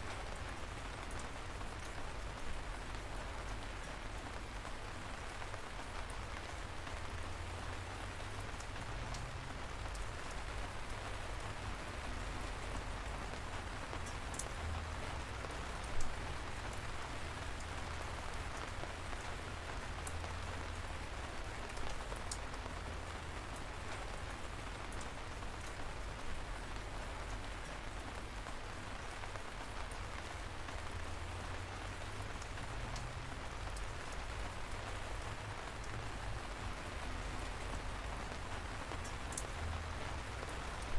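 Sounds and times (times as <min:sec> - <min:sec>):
raindrops ticking: 0:00.1 - 0:40.9
light rain hissing: 0:04.4 - 0:40.9.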